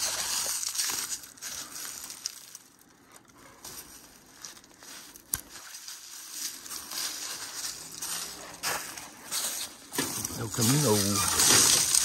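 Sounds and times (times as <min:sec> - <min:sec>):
footsteps crunching on dry ground: 0:00.0 - 0:12.0.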